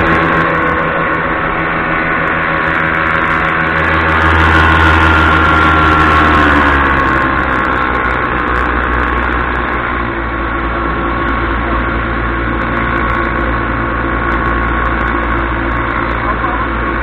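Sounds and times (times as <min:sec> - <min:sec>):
paramotor engine droning: 0:00.0 - 0:17.0.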